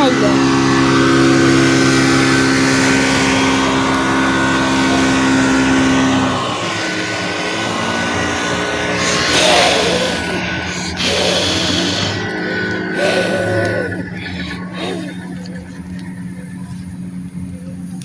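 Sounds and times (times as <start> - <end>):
motor engine running: 0.0 - 18.0
faint hum: 1.6 - 17.8.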